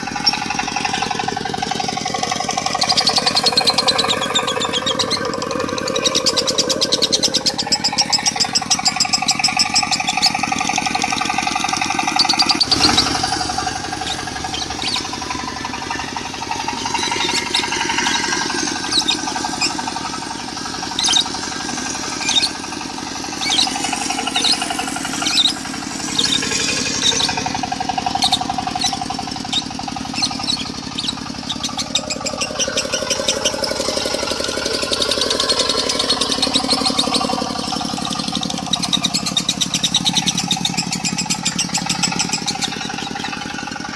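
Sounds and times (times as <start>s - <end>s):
diesel engine running: 0.0s - 43.9s
lovebird chirping: 2.6s - 10.4s, 12.0s - 43.4s.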